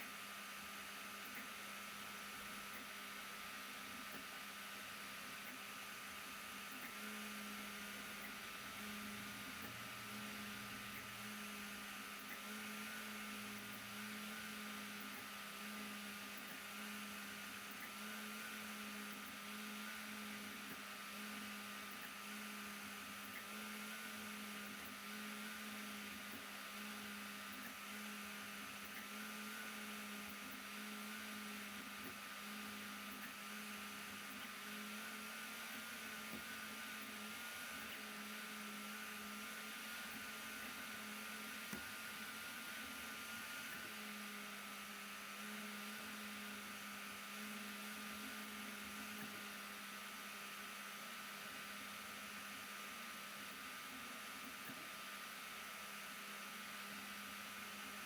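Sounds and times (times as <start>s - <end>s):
printer motors humming: 0.0s - 58.0s.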